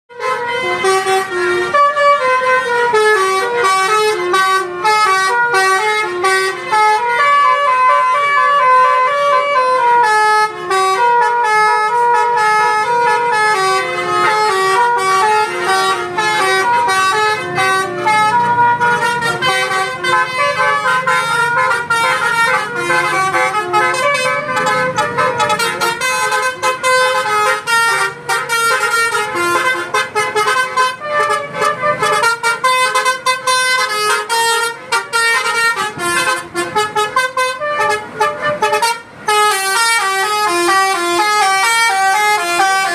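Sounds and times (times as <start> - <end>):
bus horn playing a tune: 0.1 - 42.9.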